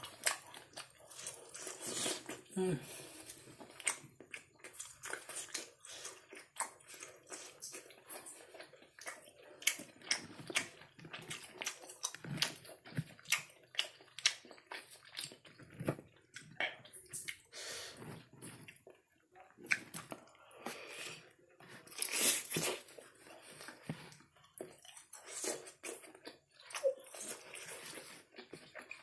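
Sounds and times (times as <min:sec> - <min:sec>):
person chewing with mouth smacks: 0:00.0 - 0:29.0.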